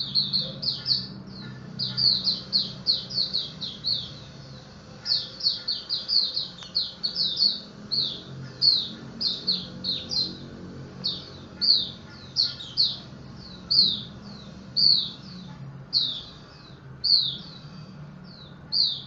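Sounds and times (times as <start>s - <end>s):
bird singing high chirps: 0.0s - 19.0s.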